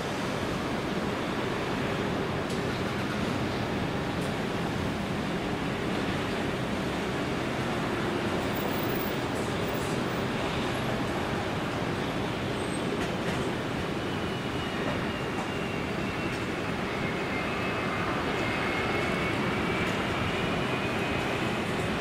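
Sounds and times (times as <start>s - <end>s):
jet engines rumbling hiss: 0.0s - 22.0s.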